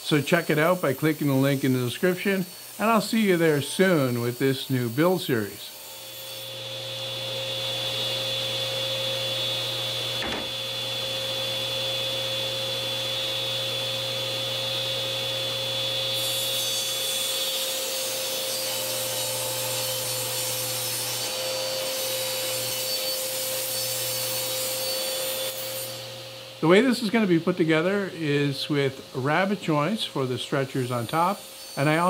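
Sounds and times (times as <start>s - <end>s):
table saw cutting plywood: 0.0s - 32.0s.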